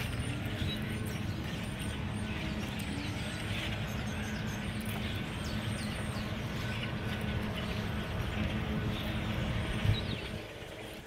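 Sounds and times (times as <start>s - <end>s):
flock of blackbirds calling: 0.0s - 11.0s
steady low rumble: 0.0s - 11.0s.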